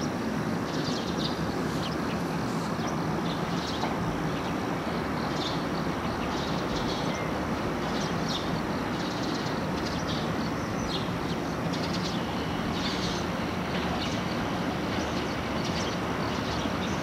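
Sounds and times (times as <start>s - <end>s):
train wheels rumbling on rails: 0.1s - 17.0s.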